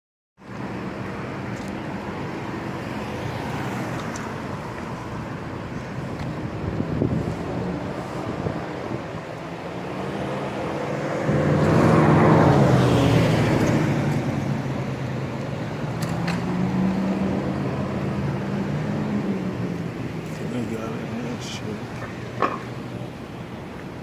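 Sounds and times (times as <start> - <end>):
rushing noise: 2.0 - 24.0.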